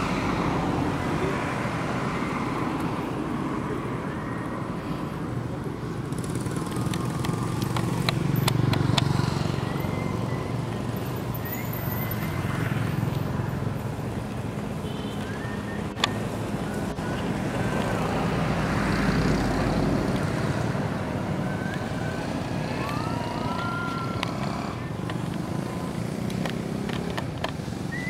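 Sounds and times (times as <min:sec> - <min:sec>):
passing traffic rumble: 0:00.0 - 0:28.0.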